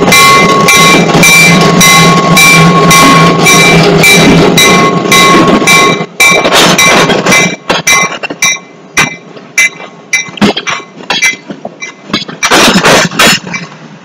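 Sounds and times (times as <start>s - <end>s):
train wheels clanking over rail joints: 0.0s - 14.0s.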